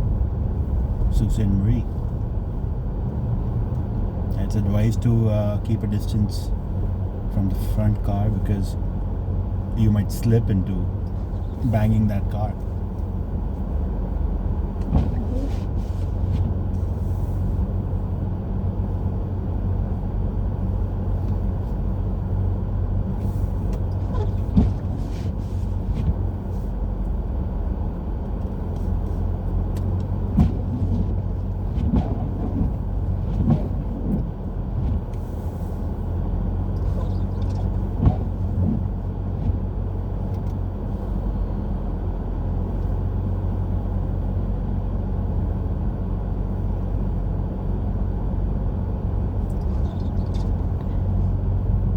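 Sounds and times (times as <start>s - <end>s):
engine and tyres droning: 0.0s - 51.9s.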